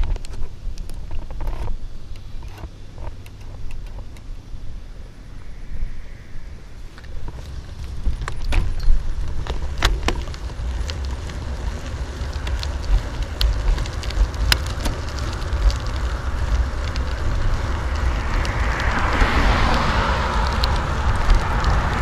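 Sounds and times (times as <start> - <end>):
bicycle clicks and rattles: 0.0 - 4.3, 6.9 - 22.0
wind buffeting microphone: 0.0 - 22.0
car tyre hiss passing: 4.2 - 22.0.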